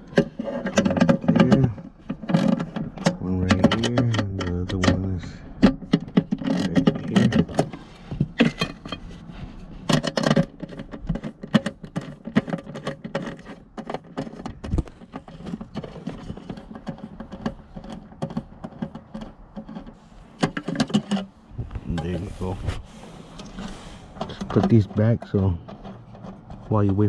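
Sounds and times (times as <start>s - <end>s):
clicks and metallic rattles: 0.0s - 22.3s, 23.4s - 27.0s.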